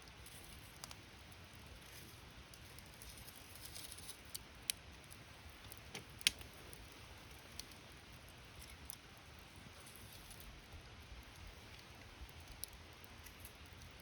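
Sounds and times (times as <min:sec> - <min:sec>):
campfire wood crackling: 0:00.0 - 0:14.0
faint steady hiss: 0:00.0 - 0:14.0.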